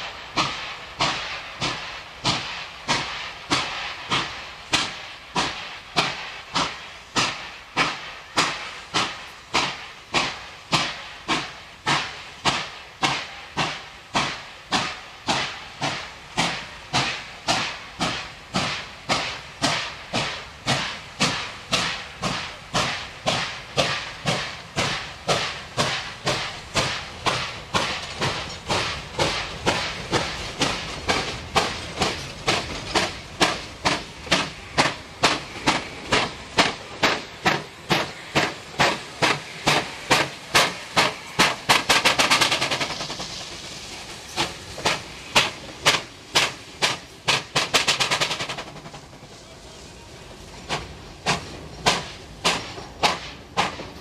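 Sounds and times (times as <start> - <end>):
steam hissing: 0.0 - 54.0
steam locomotive exhaust beats: 0.0 - 54.0.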